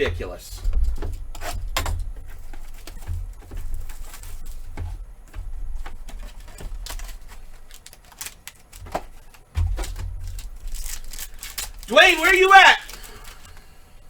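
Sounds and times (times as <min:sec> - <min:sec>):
cards clicking and rustling: 0:00.0 - 0:14.0
low steady hum: 0:00.0 - 0:14.0.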